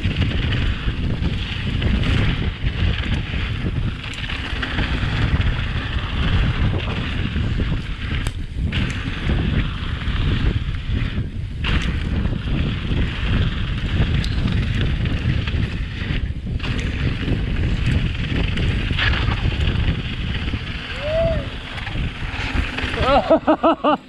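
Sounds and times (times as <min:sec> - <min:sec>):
bike clicks: 0:00.0 - 0:24.0
bike tyres rolling over dirt: 0:00.0 - 0:24.0
wind buffeting microphone: 0:00.0 - 0:24.0.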